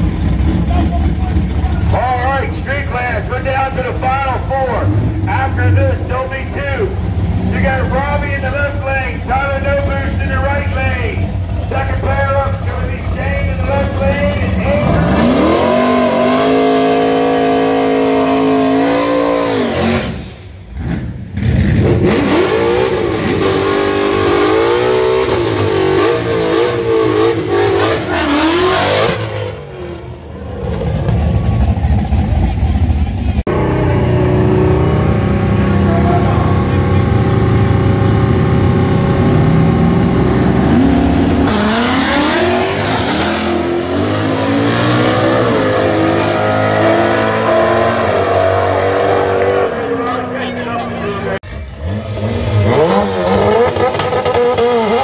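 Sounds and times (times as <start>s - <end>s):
drag car engines revving: 0.0s - 55.0s.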